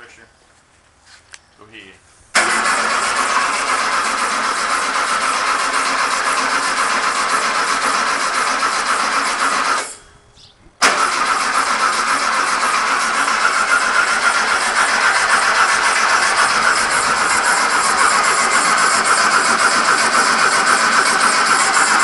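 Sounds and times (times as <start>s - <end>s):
starter motor cranking engine: 2.4s - 10.0s, 10.8s - 22.0s.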